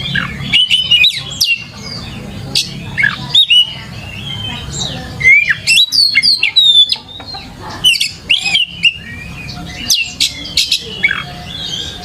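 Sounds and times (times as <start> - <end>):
bird singing whistles and chirps: 0.0 - 12.0.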